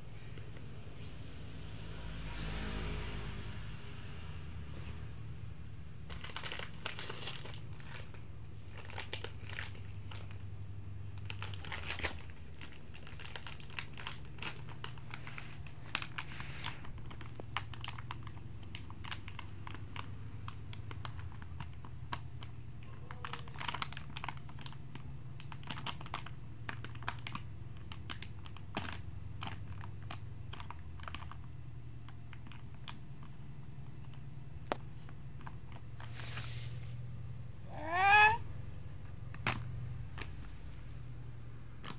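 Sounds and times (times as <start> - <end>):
plastic wipes pack crinkling: 6.0 - 38.4, 39.2 - 41.9.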